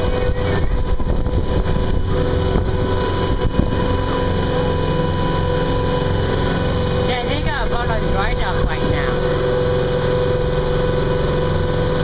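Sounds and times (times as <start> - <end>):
boat motor humming: 0.0 - 12.0
water rushing along hull: 0.0 - 12.0.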